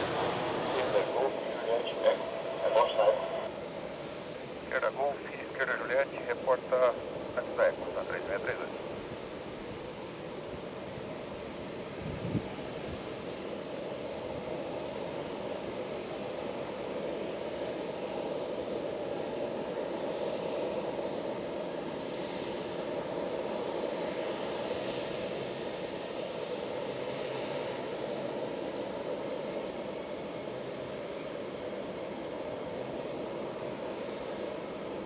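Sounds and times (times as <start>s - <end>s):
distant jet engines droning: 0.0s - 35.0s.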